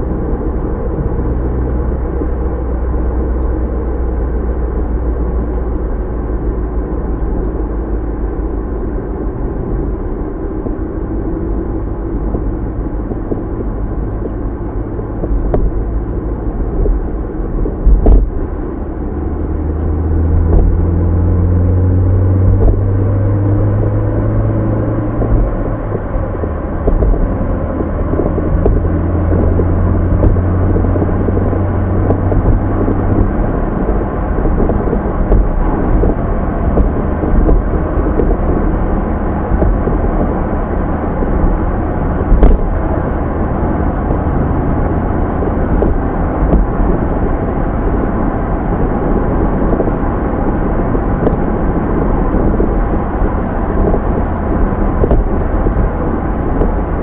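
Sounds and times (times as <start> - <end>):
car engine and tyres rumbling: 0.0 - 57.0
low hum: 0.0 - 57.0.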